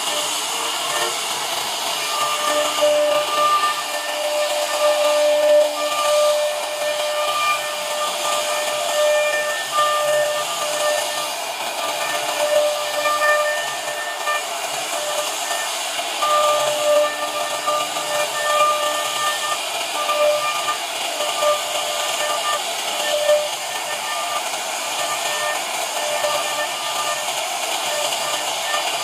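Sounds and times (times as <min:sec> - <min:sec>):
router cutting wood: 0:00.0 - 0:29.0.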